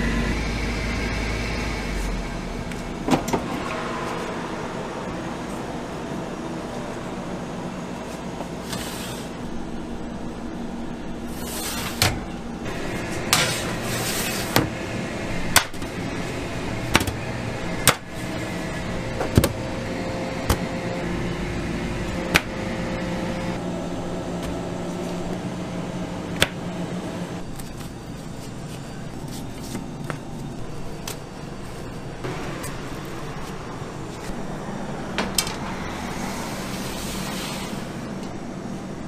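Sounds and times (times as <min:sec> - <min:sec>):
machine hum: 0:00.0 - 0:39.0.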